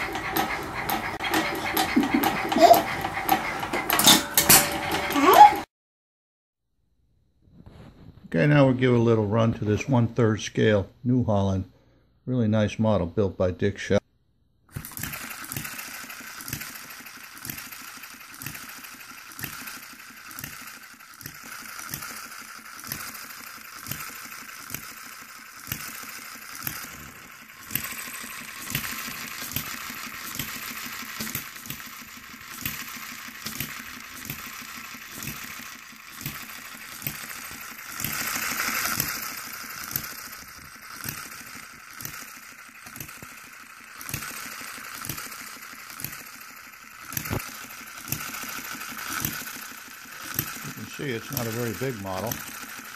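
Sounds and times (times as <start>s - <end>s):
stationary engine clattering: 0.0s - 5.7s, 14.7s - 52.9s.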